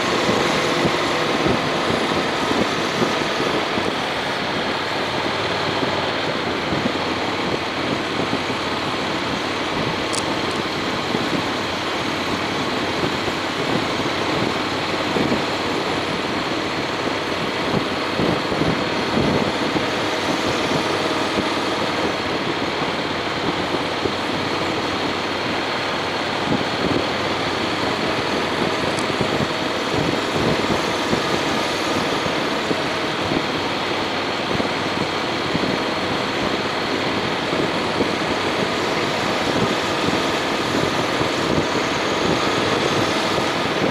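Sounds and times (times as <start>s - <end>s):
motorcycle engine running: 0.0s - 43.9s
road noise: 0.0s - 43.9s.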